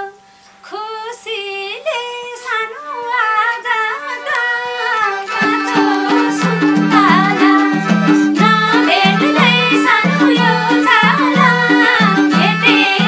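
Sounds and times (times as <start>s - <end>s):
faint steady drone: 0.0s - 13.0s
woman singing folk song: 0.0s - 13.0s
accompanying instruments: 1.9s - 13.0s.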